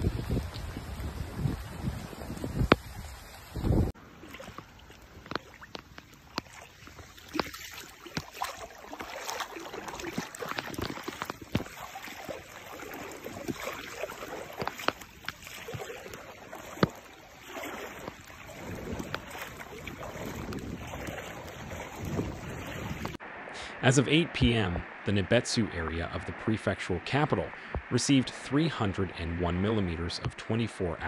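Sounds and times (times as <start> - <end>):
floodwater rushing and splashing: 0.0 - 31.0.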